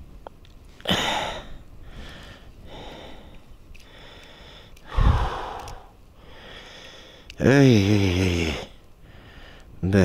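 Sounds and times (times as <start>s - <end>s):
person breathing: 0.9s - 7.4s, 8.0s - 9.8s.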